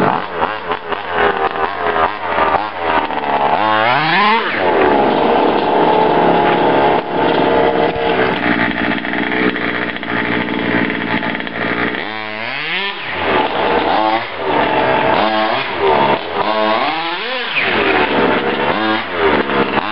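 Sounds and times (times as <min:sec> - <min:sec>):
two-stroke engine revving: 0:00.0 - 0:19.9.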